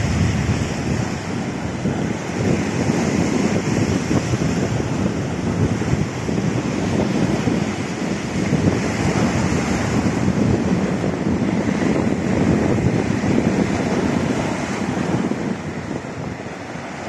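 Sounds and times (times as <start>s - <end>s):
waves breaking ashore: 0.0s - 17.0s
wind buffeting microphone: 0.0s - 17.0s.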